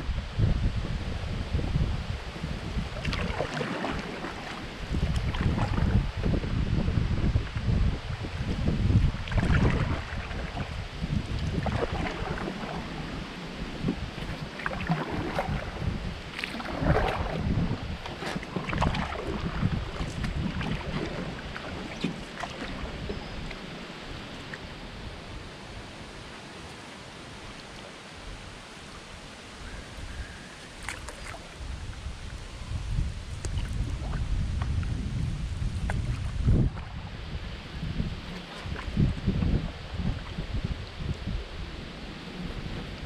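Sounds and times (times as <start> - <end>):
wind buffeting microphone: 0.0 - 26.2, 28.2 - 43.0
paddle splashing water: 2.2 - 6.6, 7.4 - 43.0.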